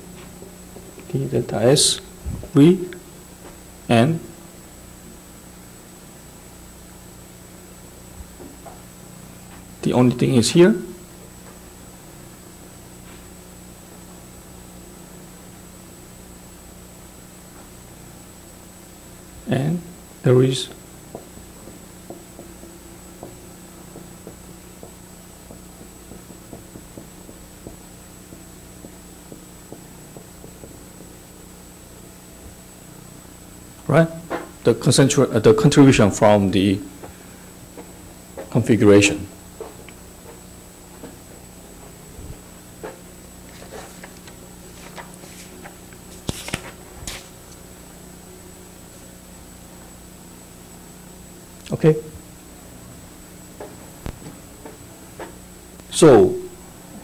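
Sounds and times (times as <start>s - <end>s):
electrical hum with whine: 0.0s - 57.0s.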